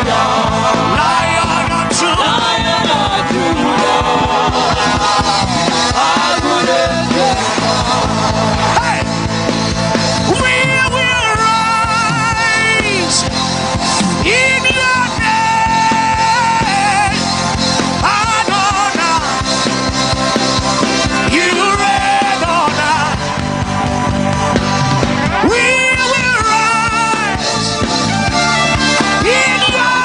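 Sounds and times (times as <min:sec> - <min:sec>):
worship band playing: 0:00.0 - 0:30.0.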